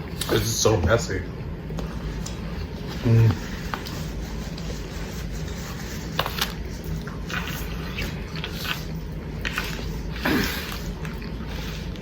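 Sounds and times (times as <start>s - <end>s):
steady low hum: 0.0s - 12.0s
wet chewing: 1.6s - 12.0s.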